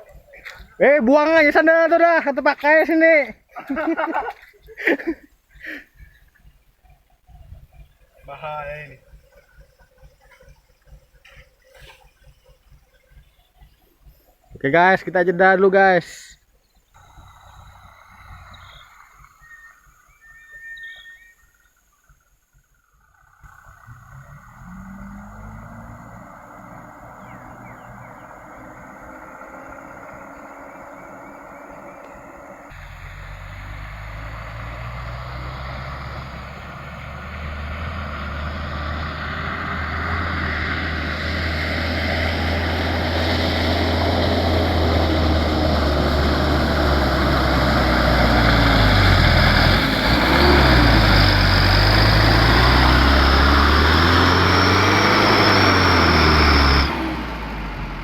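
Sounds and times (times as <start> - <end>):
truck engine under load: 0.0 - 58.0.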